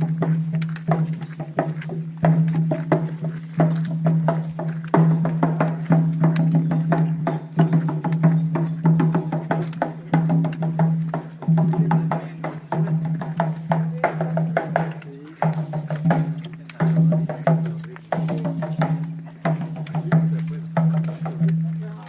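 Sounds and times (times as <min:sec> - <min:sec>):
wooden percussion strikes: 0:00.0 - 0:22.0.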